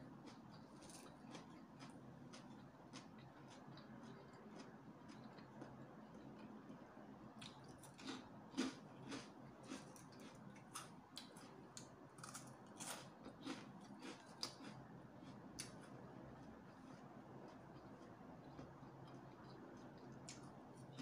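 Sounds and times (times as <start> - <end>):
person chewing: 0.2 - 6.8, 7.4 - 21.0.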